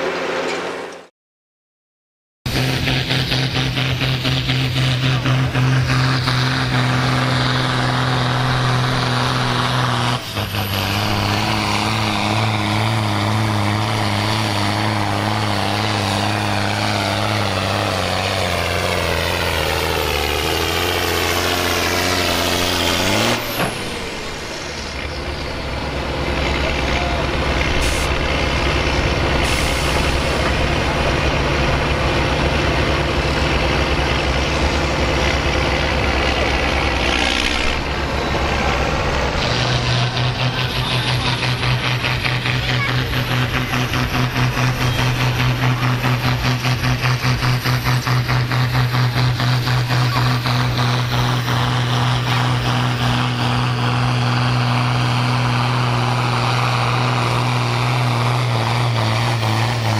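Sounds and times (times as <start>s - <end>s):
tractor diesel engine straining: 2.5s - 59.9s
tractor engine idling: 2.6s - 59.9s.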